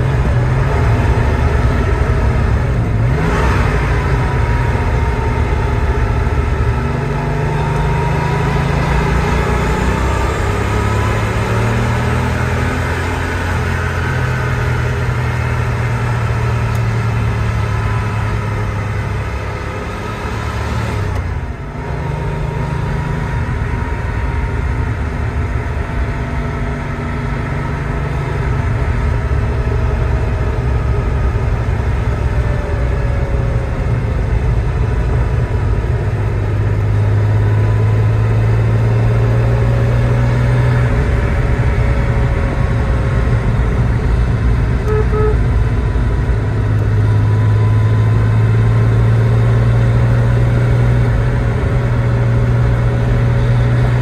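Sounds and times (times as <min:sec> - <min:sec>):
car engine while driving: 0:00.0 - 0:54.0
road and tyre noise: 0:00.0 - 0:54.0.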